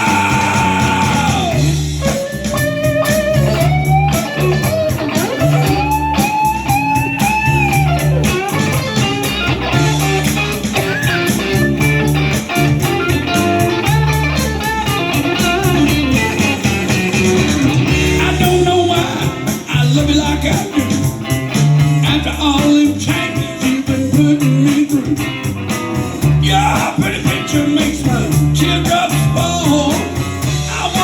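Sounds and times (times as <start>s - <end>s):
bass guitar: 0.0s - 31.0s
electric lead guitar: 0.0s - 31.0s
steady drum beat: 0.0s - 31.0s.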